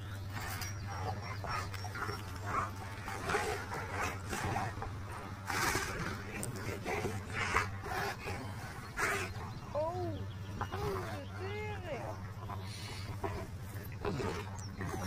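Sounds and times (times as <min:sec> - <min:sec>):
puppies play noises: 0:00.0 - 0:15.0
steady low hum: 0:00.0 - 0:15.0.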